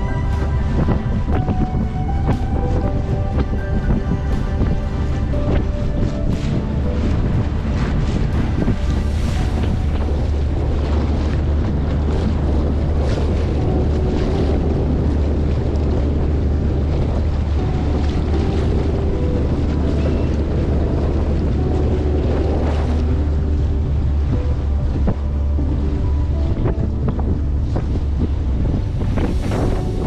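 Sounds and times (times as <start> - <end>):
motorboat engine drone: 0.0 - 30.0
water noise: 0.0 - 30.0
wind buffeting microphone: 0.0 - 30.0.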